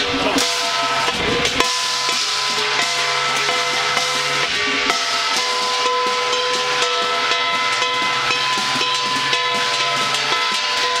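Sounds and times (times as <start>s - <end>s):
drum and metal percussion strikes: 0.0s - 11.0s
held ringing tones: 0.4s - 11.0s.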